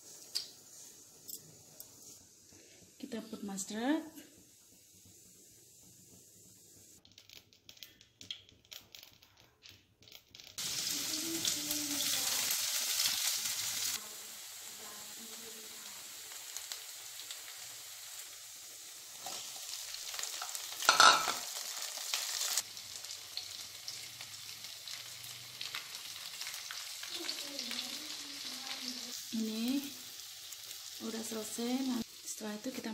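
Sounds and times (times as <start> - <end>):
frying sizzle: 0.0 - 32.9
seeds crackling in hot oil: 0.0 - 32.9.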